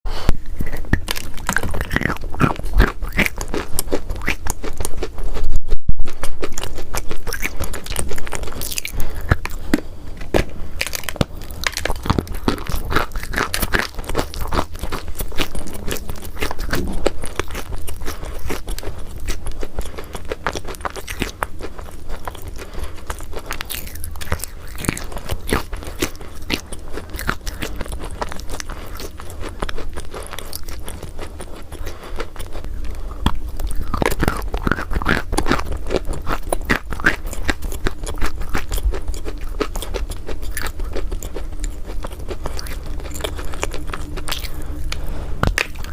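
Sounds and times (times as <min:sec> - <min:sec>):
chalk being bitten and chewed: 0:00.3 - 0:45.9.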